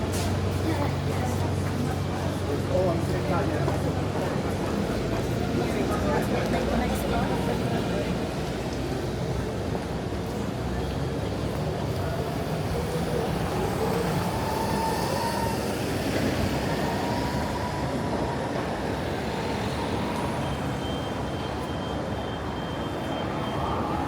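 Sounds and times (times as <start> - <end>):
city street traffic: 0.0 - 24.0.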